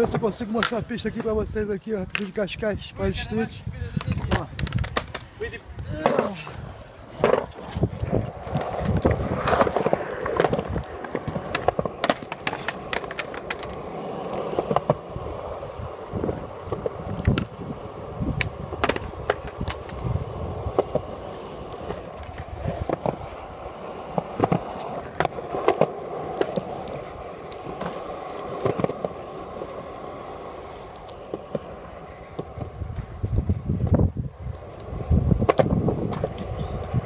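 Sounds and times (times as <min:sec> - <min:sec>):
skateboard clicks and knocks: 0:00.0 - 0:02.6, 0:03.9 - 0:37.0
skateboard wheels rolling on concrete: 0:00.0 - 0:37.0.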